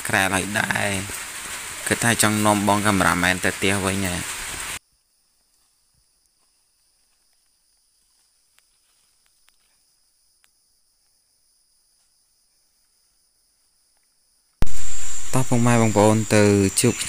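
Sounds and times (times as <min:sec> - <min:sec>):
faint insect drone: 0:00.0 - 0:17.0.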